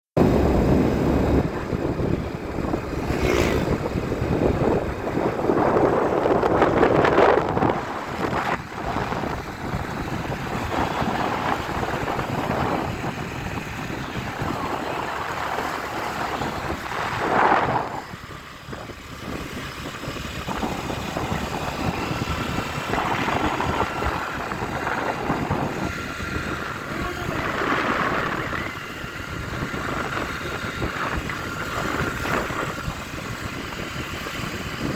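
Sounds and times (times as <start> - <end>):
road noise: 0.2 - 34.9
wind buffeting microphone: 0.2 - 34.9.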